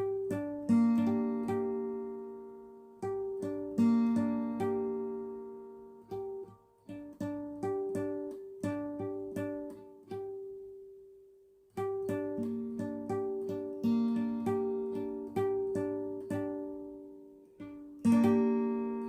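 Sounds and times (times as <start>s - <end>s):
acoustic guitar picking: 0.0s - 11.0s, 11.8s - 19.0s.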